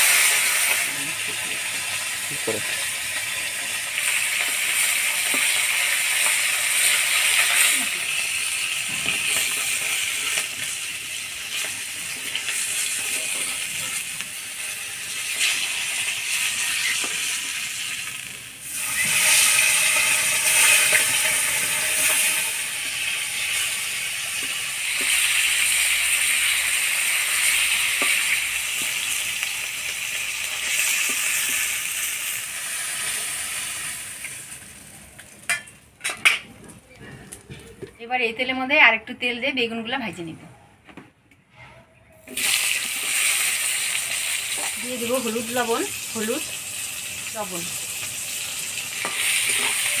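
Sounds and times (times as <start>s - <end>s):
fish sizzling in hot oil: 0.0s - 35.9s, 42.3s - 50.0s.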